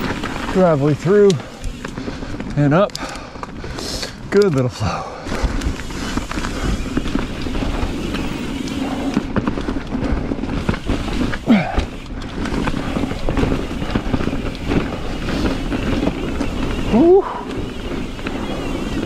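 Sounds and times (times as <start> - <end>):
bike rattling and clicking: 0.0 - 19.0
tyres crackling over dry leaves: 0.0 - 19.0.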